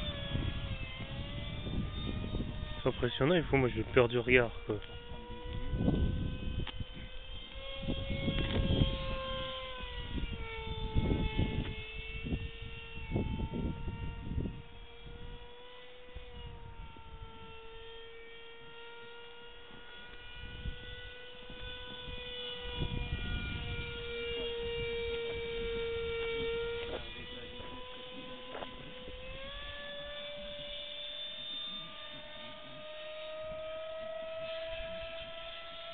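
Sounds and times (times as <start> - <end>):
wind gusting on microphone: 0.0 - 18.8, 19.8 - 35.7
model airplane motor whining: 0.0 - 35.9.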